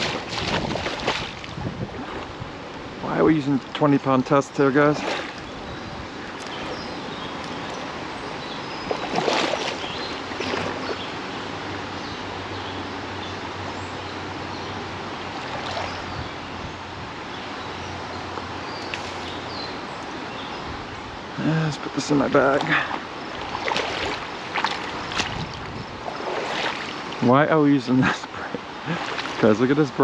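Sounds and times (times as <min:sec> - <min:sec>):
creek water running: 0:00.0 - 0:30.0.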